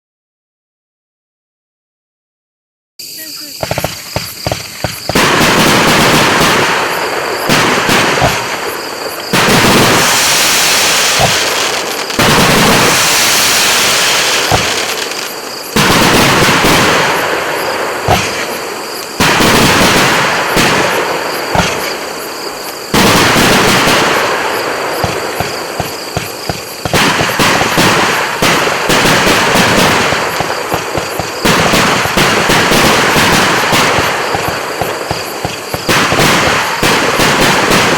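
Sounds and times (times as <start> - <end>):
fireworks launching and popping: 3.5 - 37.9.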